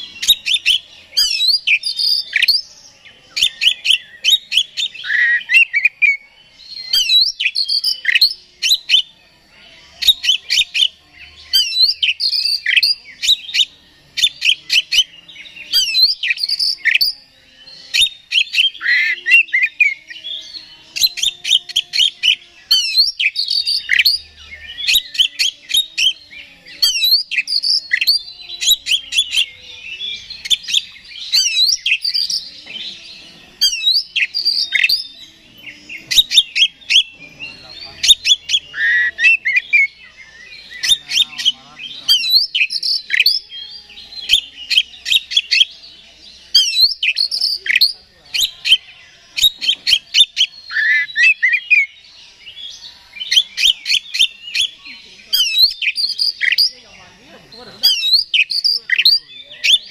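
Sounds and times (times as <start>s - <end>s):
bird singing whistles and chatter: 0.0s - 59.9s.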